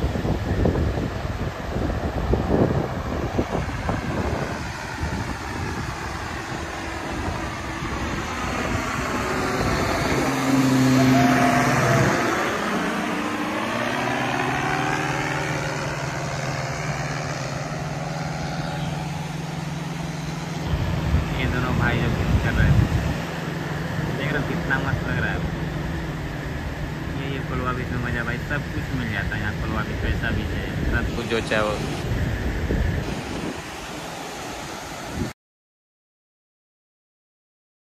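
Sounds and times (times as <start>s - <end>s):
wind buffeting microphone: 0.0s - 35.3s
propeller engine flying overhead: 0.0s - 35.4s.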